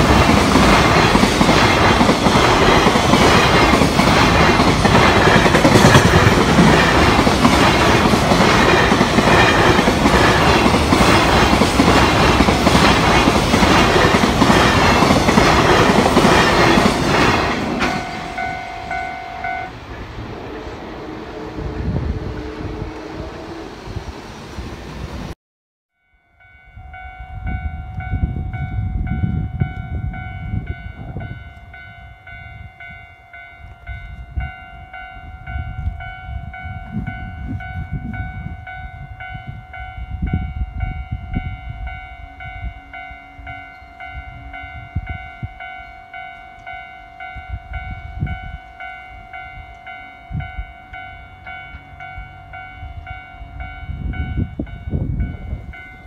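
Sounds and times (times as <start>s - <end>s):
level-crossing warning bell ringing: 0.0s - 20.8s, 26.0s - 56.0s
wind buffeting microphone: 0.0s - 25.3s, 26.8s - 45.9s, 47.1s - 56.0s.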